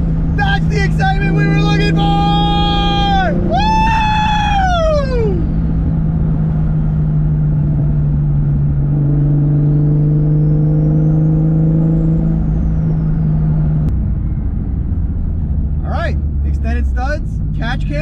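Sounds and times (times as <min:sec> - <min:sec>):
car engine running: 0:00.0 - 0:18.0
high turbo whine: 0:00.0 - 0:18.0.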